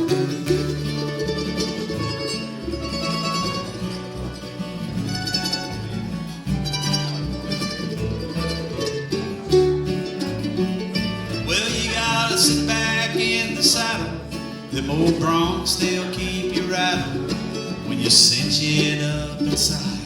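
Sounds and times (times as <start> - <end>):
acoustic guitar picking: 0.0 - 20.0
mandolin picking: 0.0 - 20.0
upright bass: 0.0 - 20.0.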